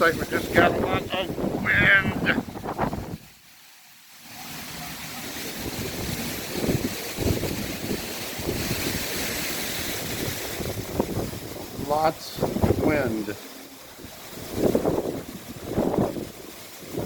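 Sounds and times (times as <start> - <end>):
gusty wind buffeting microphone: 0.0 - 3.6, 5.2 - 17.0.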